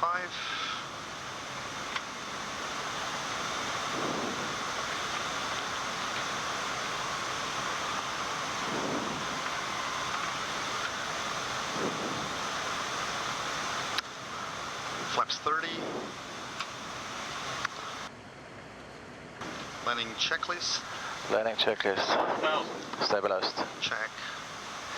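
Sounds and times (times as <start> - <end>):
rushing airflow noise: 0.2 - 18.1, 19.4 - 24.9.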